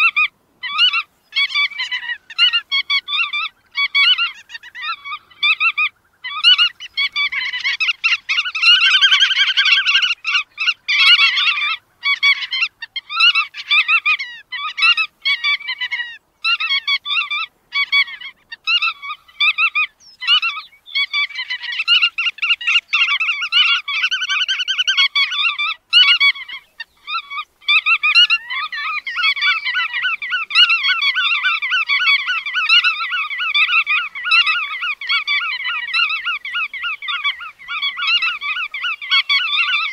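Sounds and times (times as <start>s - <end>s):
flock of godwits chattering: 0.0s - 39.9s.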